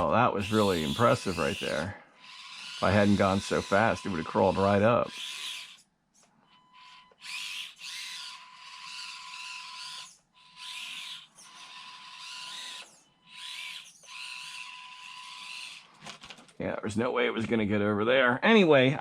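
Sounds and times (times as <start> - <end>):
small electric motor whirring: 0.0 - 16.2.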